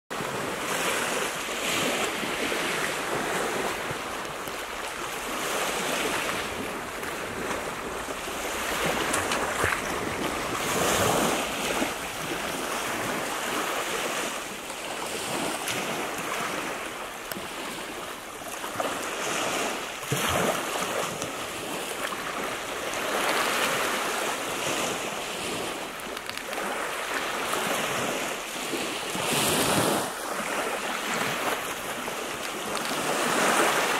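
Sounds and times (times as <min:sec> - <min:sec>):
small waves washing onto pebbles: 0:00.1 - 0:33.9.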